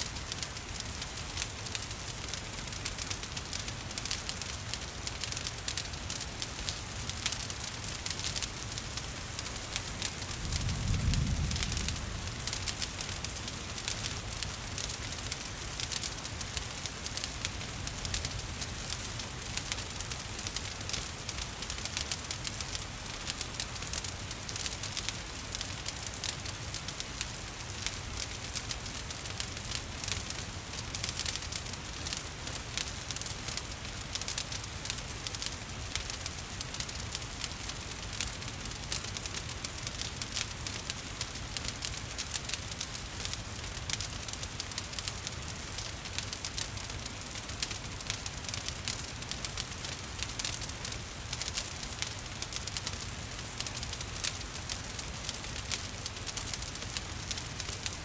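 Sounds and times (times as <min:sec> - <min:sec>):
rain hiss: 0:00.0 - 0:58.0
wood fire crackling: 0:00.0 - 0:58.0.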